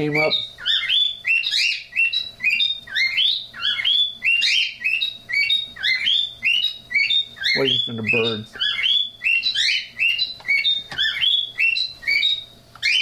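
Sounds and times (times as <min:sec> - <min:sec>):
cockatiel chirping: 0:00.0 - 0:13.0.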